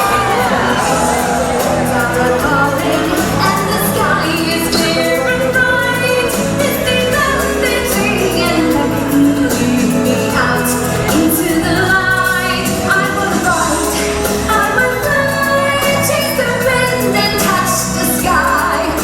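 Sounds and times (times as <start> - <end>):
singing: 0.0 - 19.0
steady bass line: 0.0 - 19.0.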